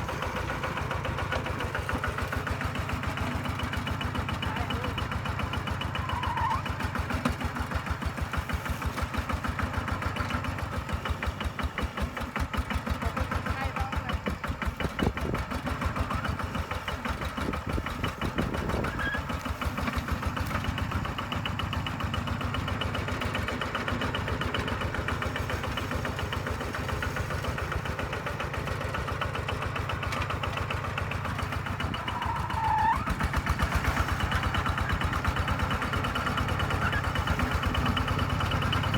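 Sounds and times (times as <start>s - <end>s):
diesel tractor engine thumping: 0.0s - 38.9s.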